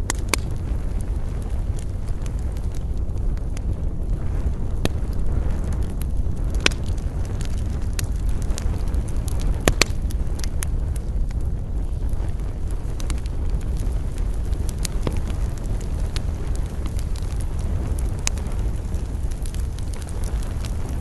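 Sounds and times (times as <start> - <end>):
campfire crackling and popping: 0.0 - 21.0
steady low rumble: 0.0 - 21.0.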